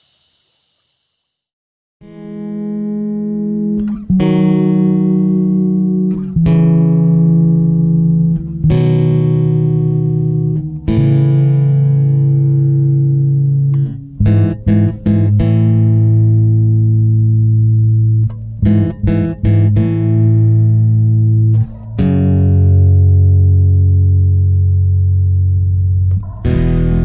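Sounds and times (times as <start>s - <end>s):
slow guitar chords: 2.0s - 27.0s.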